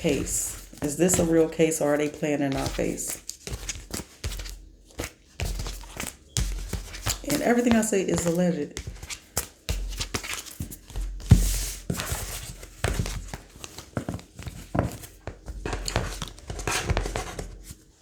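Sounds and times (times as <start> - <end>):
cards shuffling: 0.0 - 17.5.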